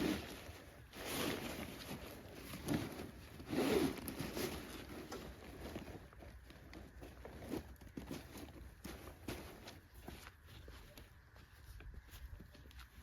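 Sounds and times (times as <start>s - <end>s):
tent fabric rustling: 0.0s - 12.2s.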